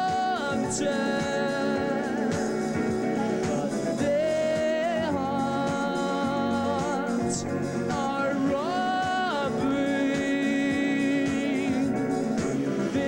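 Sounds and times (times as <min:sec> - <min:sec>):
drums: 0:00.0 - 0:13.0
guitar: 0:00.0 - 0:13.0
man singing: 0:00.0 - 0:13.0.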